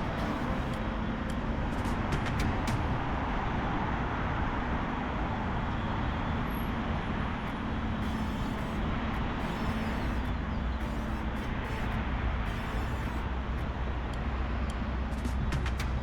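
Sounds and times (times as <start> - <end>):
city road traffic rumble: 0.0 - 16.0.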